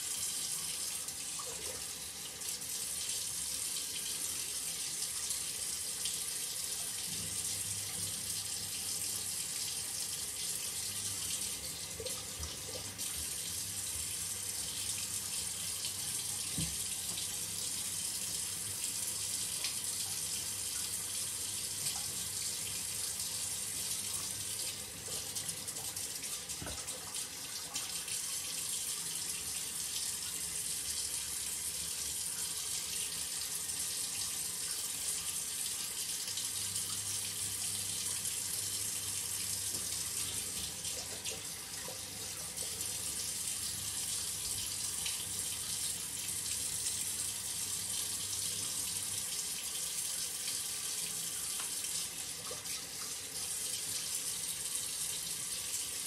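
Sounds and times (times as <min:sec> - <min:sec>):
shower water running: 0:00.0 - 0:56.0.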